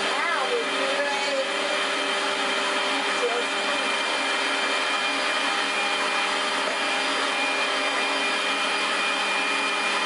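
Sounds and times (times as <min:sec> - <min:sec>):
electric blender running: 0:00.0 - 0:10.0.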